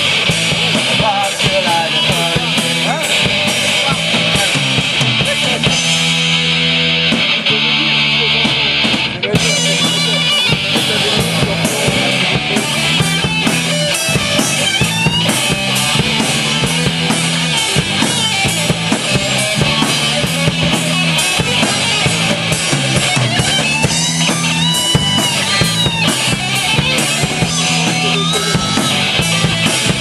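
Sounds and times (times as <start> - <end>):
bending guitar melody: 0.0 - 30.0
driving drum beat: 0.0 - 30.0
rock band playing: 0.0 - 30.0.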